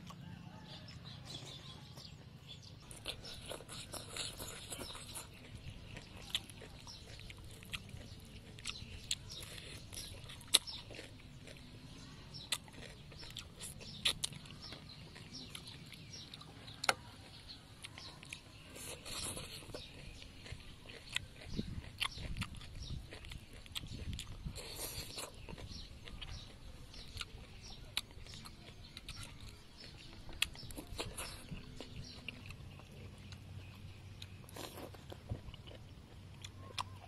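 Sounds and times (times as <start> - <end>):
chewing food: 0.0 - 37.0.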